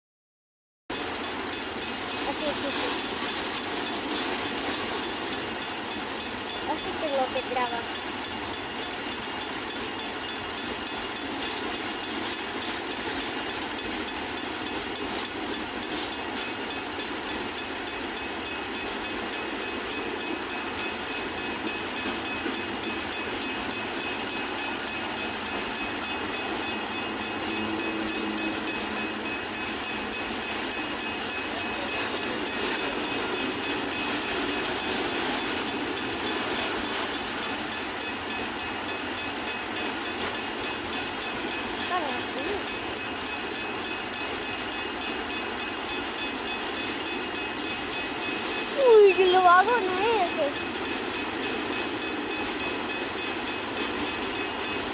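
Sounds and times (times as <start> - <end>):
train wheels ticking: 0.9 - 54.9.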